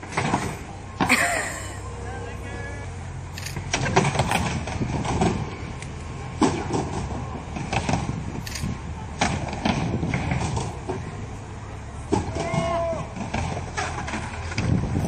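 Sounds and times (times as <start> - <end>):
skateboard wheels rumbling: 0.0 - 1.4, 3.6 - 15.0.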